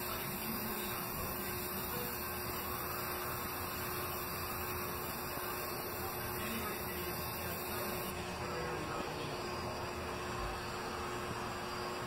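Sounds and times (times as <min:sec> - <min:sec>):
ceiling fan whirring: 0:00.0 - 0:12.0
faint hum: 0:00.0 - 0:12.0.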